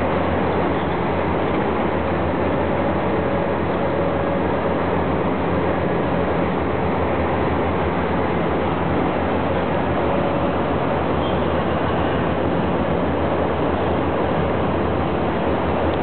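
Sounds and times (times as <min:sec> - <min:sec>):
excavator diesel engines droning: 0:00.0 - 0:16.0.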